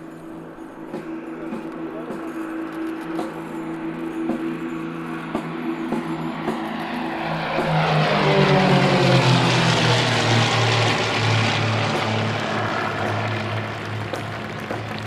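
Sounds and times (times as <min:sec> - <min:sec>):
propeller aircraft flying past: 0:01.9 - 0:15.0.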